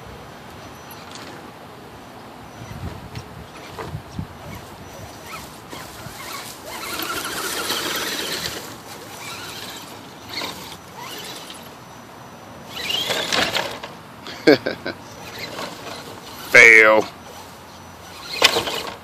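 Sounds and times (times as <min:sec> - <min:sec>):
toy truck electric motor whining: 0:02.6 - 0:19.0.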